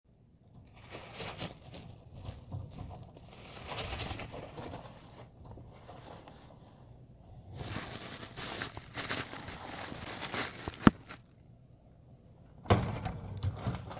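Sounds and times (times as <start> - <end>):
rustling and crinkling in a cage: 0.2 - 11.4, 12.5 - 13.9.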